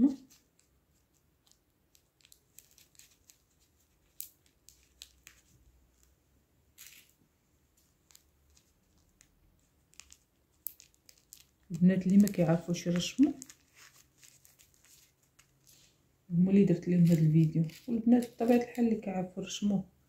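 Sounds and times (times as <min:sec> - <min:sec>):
paper rustling and clicking: 0:00.2 - 0:06.1, 0:07.8 - 0:15.9, 0:16.9 - 0:19.0.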